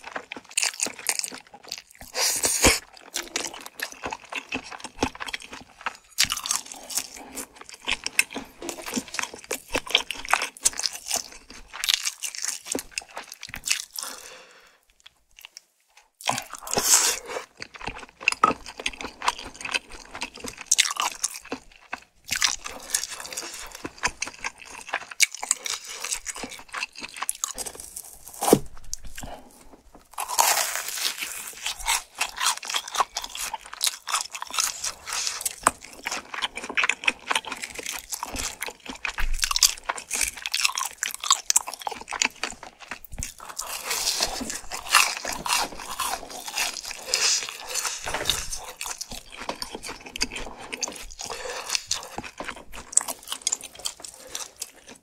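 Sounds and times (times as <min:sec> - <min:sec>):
crunchy chewing of fried food: 0:00.0 - 0:55.0.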